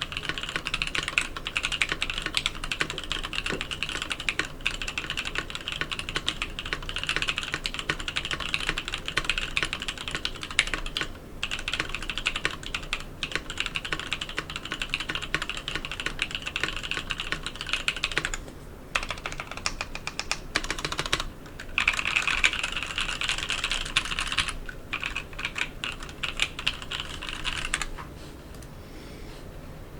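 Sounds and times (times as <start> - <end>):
mechanical keyboard typing: 0.0 - 18.4, 19.0 - 27.9.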